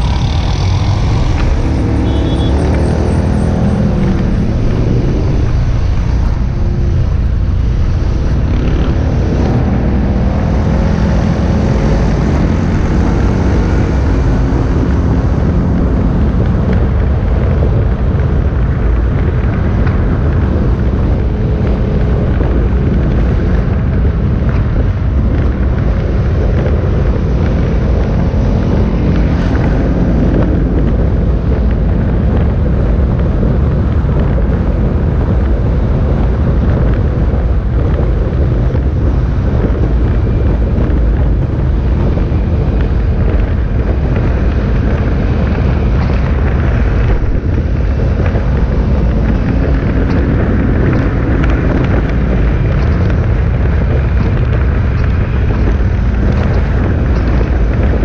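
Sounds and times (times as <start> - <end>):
motorcycle engines running: 0.0 - 58.0
wind rumble on microphone: 0.0 - 58.0.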